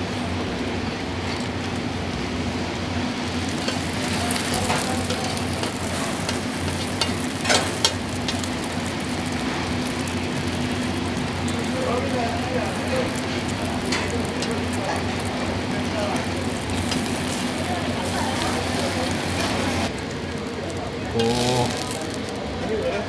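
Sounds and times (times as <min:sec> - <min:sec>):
burger sizzling in oil: 0:00.0 - 0:23.0.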